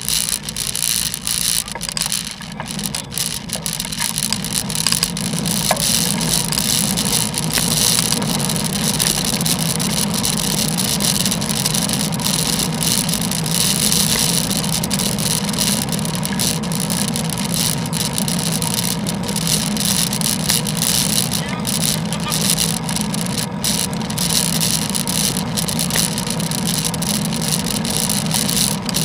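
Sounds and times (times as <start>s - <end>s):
bicycle tyres on wet road: 0.0s - 29.0s.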